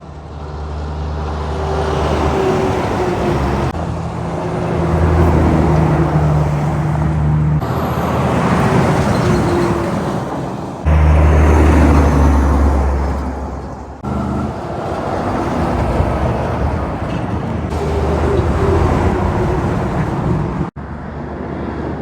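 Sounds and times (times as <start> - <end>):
heavy truck engines running: 0.0 - 21.8.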